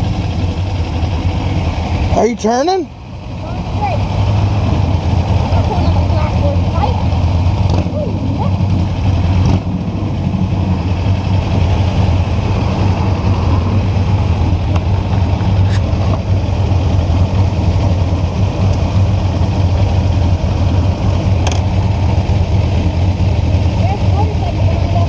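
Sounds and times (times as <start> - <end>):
motorcycle engine running: 0.0 - 25.0
road and wind noise: 0.0 - 25.0.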